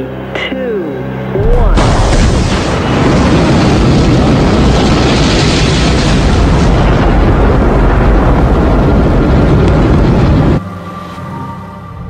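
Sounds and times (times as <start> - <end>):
rocket engines roaring: 1.2 - 12.0.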